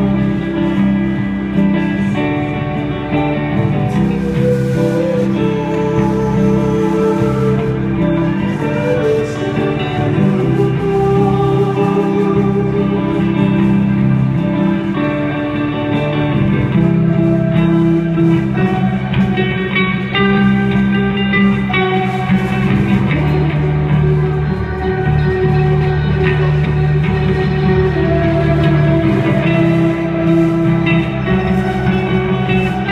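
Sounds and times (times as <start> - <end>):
electric guitar: 0.0 - 32.9
rock band playing live: 0.0 - 32.9.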